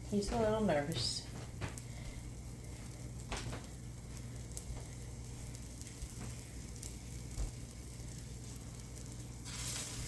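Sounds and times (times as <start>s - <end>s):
food sizzling in a frying pan: 0.0s - 10.0s
low steady hum: 0.0s - 10.0s.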